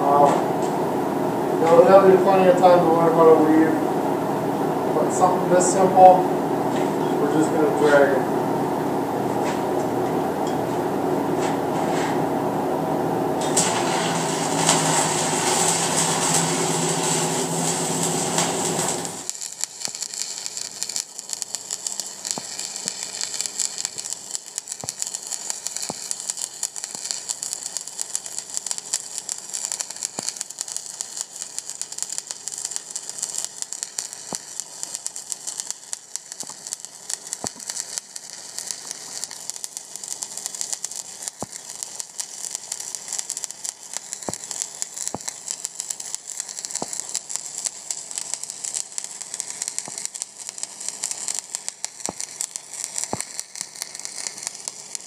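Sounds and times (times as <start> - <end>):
welding arc crackling sizzle: 0.0 - 55.0.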